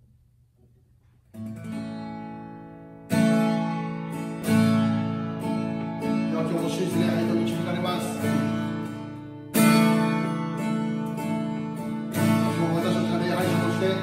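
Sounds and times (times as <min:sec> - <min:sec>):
acoustic guitar strumming chords: 0:01.3 - 0:14.0.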